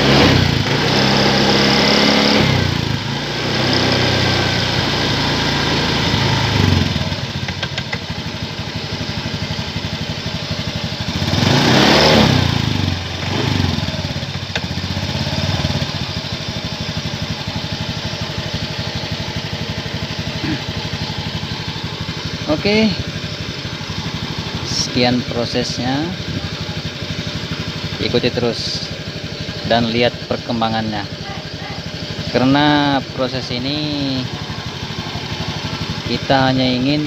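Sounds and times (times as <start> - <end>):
scooter engine idling and revving: 0.0 - 37.0.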